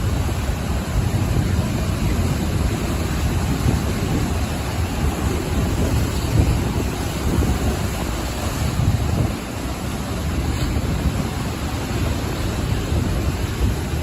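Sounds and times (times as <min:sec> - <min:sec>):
ocean surf washing ashore: 0:00.0 - 0:14.0.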